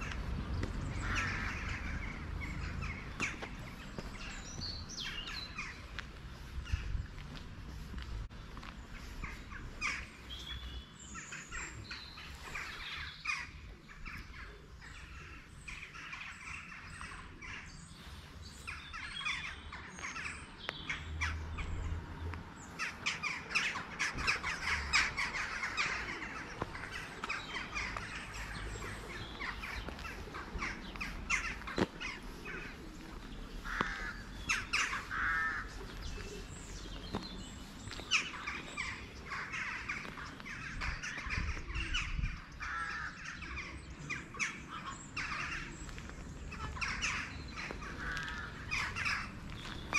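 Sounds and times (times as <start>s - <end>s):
many birds calling: 0.0s - 49.9s.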